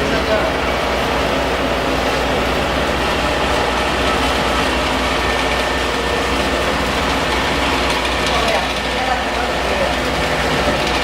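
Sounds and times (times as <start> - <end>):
processing machinery running: 0.0 - 11.0.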